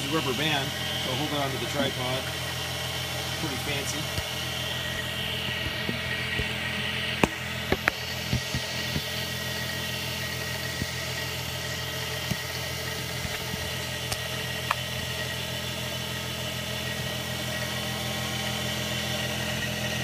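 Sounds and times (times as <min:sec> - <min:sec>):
milling machine humming: 0:00.0 - 0:20.0.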